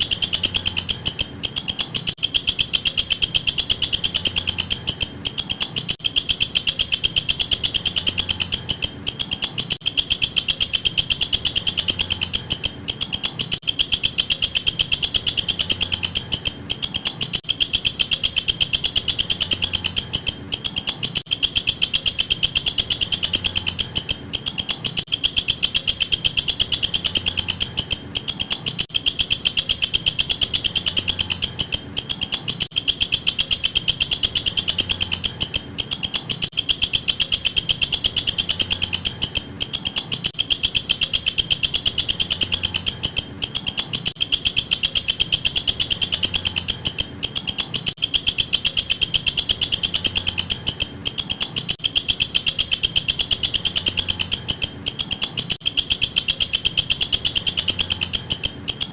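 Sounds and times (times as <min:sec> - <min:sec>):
katydid chirping: 0:00.0 - 0:58.9.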